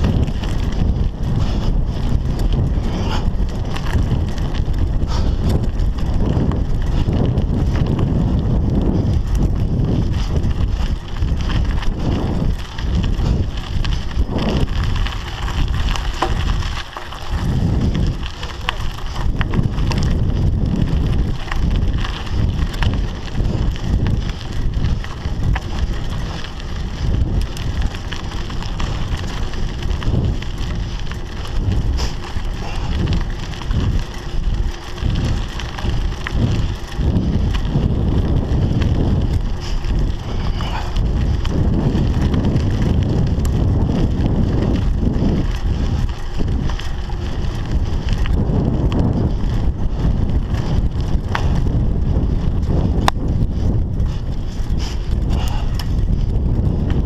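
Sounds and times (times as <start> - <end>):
bike clicks and rattles: 0.0 - 57.0
tyres crunching on gravel: 0.0 - 57.0
wind buffeting microphone: 0.0 - 57.0.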